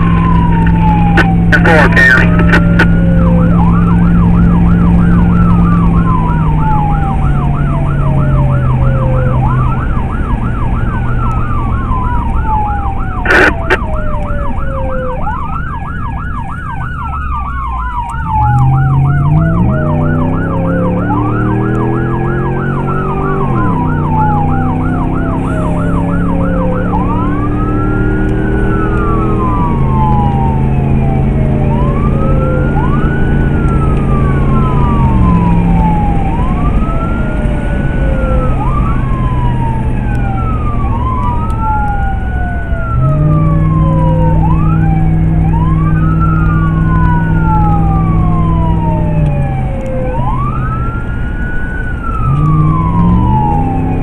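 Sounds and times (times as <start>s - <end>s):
electronic siren wailing and yelping: 0.0s - 54.0s
vehicle engine accelerating: 0.0s - 54.0s.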